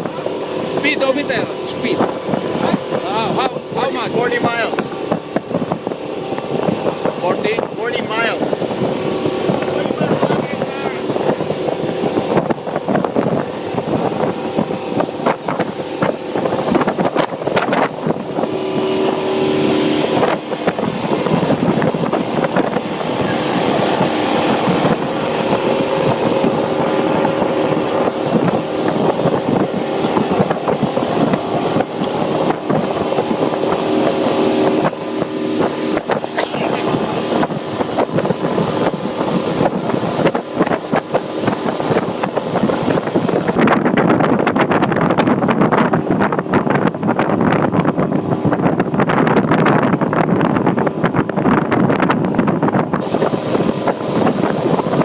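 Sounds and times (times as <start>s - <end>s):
motorboat engine hum: 0.0s - 55.0s
rushing wind and water: 0.0s - 55.0s
wind buffeting microphone: 0.0s - 55.0s.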